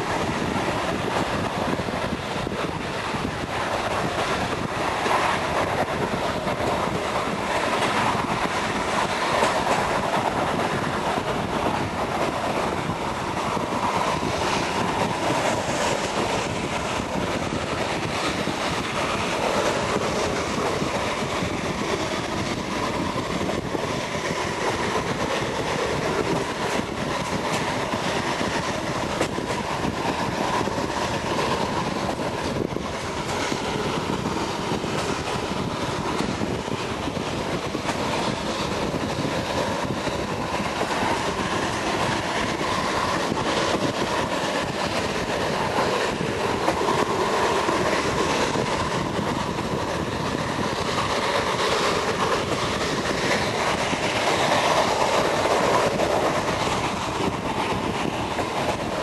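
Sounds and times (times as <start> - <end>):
train rumbling along track: 0.0 - 59.0.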